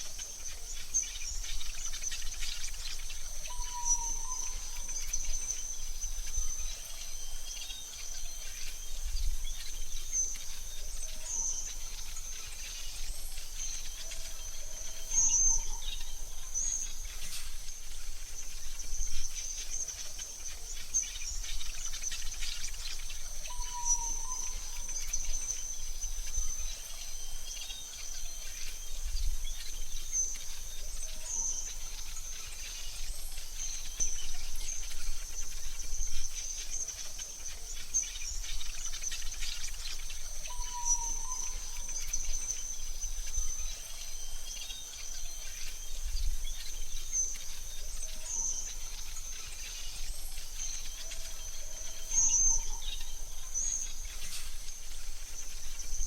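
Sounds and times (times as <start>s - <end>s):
bird chirps: 0.0s - 56.0s
insects chirring: 0.0s - 56.0s.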